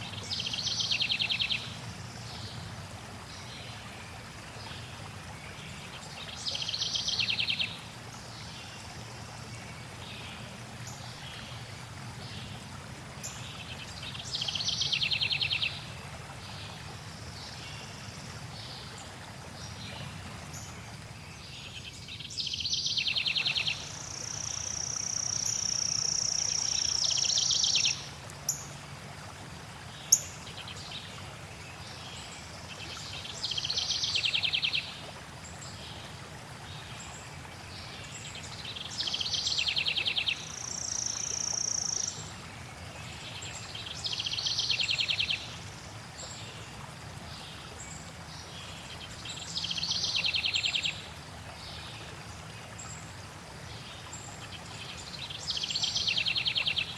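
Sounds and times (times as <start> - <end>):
flowing water: 0.0 - 56.9.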